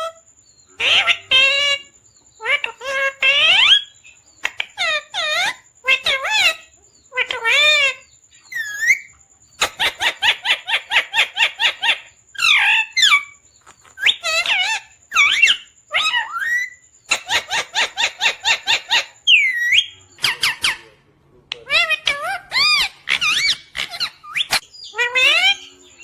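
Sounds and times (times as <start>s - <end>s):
parrot calling: 0.0s - 26.0s.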